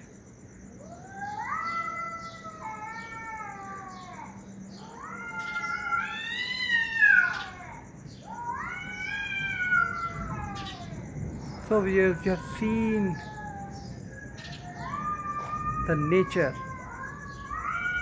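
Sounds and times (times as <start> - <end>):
cats caterwauling: 0.8 - 18.0.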